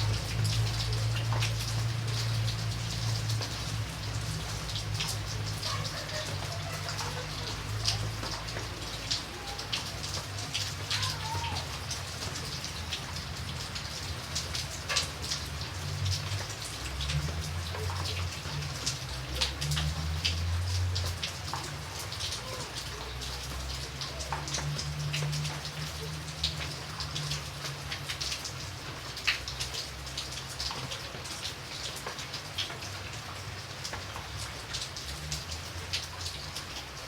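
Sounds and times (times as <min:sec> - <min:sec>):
raindrops ticking: 0:00.0 - 0:37.0
steady rain: 0:00.0 - 0:37.0.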